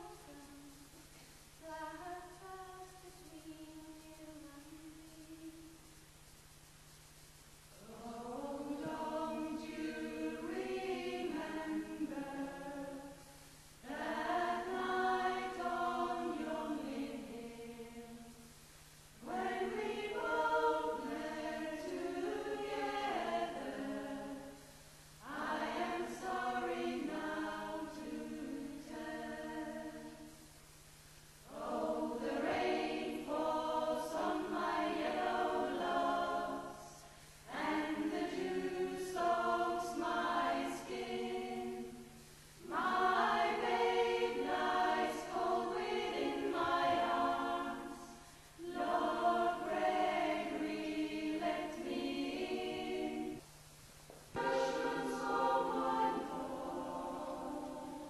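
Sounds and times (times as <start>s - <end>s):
women's choir singing unaccompanied: 0.0s - 5.7s, 7.7s - 58.0s.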